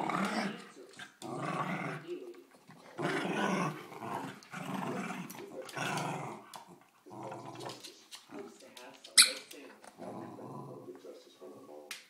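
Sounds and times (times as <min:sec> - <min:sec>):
dogs growling: 0:00.0 - 0:08.6, 0:09.8 - 0:11.1.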